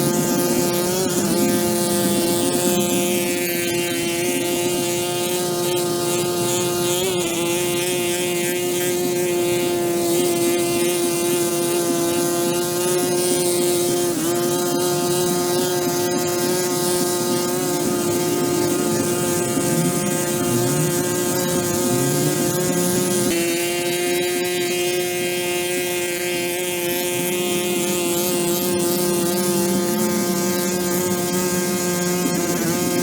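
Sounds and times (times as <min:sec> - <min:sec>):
pressure washer motor humming: 0:00.0 - 0:33.0.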